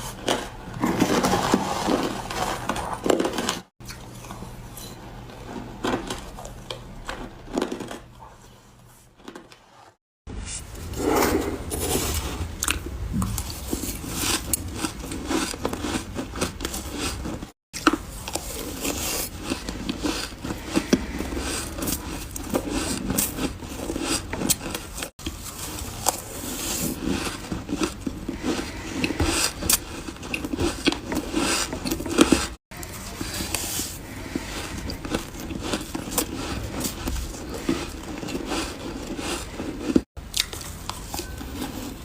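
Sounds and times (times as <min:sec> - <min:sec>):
ice being chewed: 0:00.0 - 0:09.6, 0:11.8 - 0:42.0.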